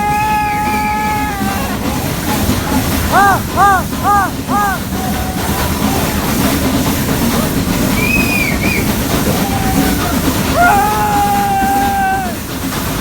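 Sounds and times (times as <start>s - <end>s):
toy train rumbling on track: 0.0s - 13.0s.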